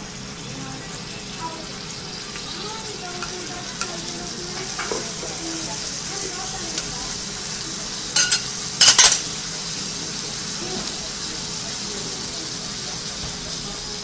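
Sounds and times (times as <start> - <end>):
food sizzling on griddle: 0.0 - 14.0.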